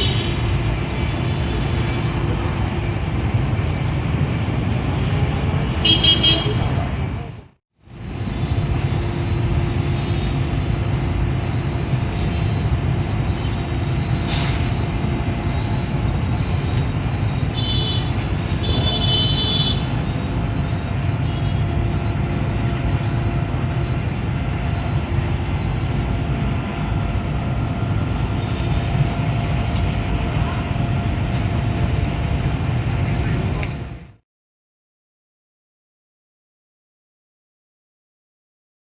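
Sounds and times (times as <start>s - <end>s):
diesel engine rumbling: 0.0s - 34.2s.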